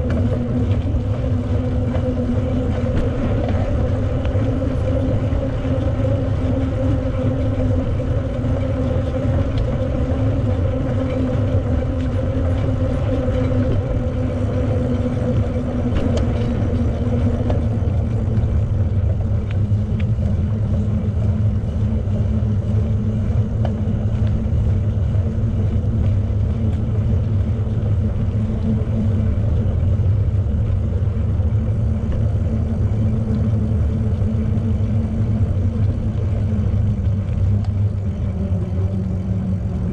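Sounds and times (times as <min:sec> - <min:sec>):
bicycle wind and tyre noise: 0:00.0 - 0:39.9
faint hum: 0:00.0 - 0:39.9.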